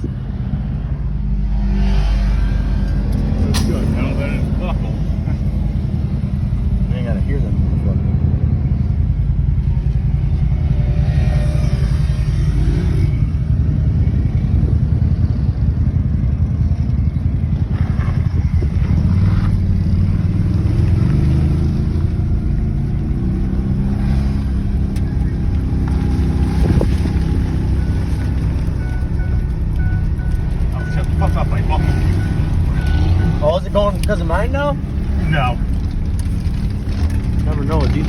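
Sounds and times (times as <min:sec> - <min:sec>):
engine running under load: 0:00.0 - 0:38.0.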